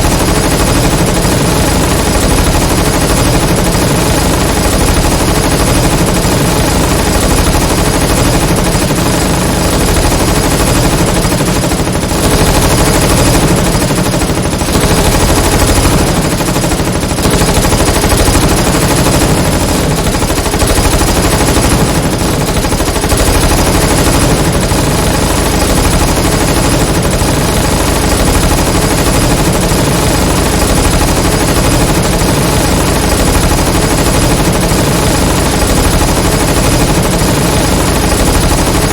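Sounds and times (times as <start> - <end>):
submachine gun fire: 0.0 - 38.9.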